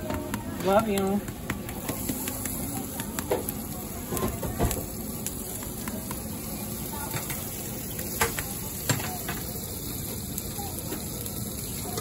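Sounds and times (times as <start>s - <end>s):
pancakes sizzling on griddle: 0.0s - 12.0s.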